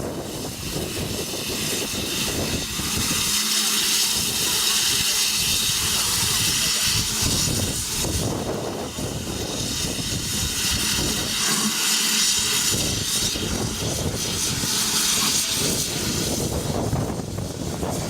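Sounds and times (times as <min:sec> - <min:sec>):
steam train running past: 0:00.0 - 0:18.0.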